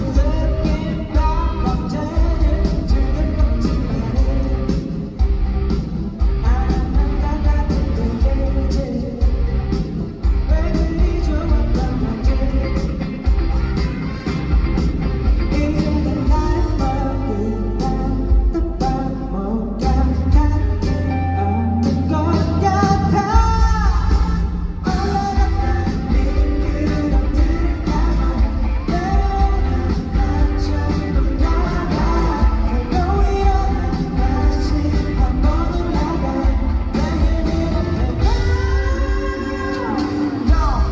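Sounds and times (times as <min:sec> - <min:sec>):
man singing: 0:00.0 - 0:14.4, 0:15.3 - 0:40.9
heavy loud bass: 0:00.0 - 0:40.9
live pop-rock band: 0:00.0 - 0:40.9.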